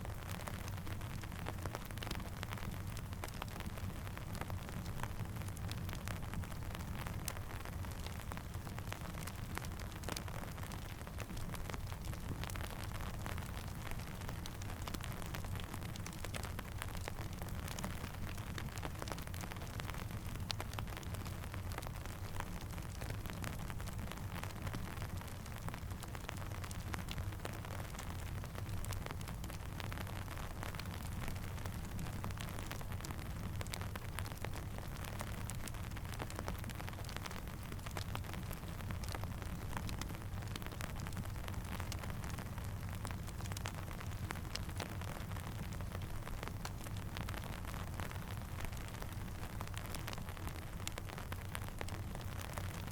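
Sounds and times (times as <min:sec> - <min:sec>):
steady rain: 0:00.0 - 0:52.9
campfire crackling: 0:00.1 - 0:52.9.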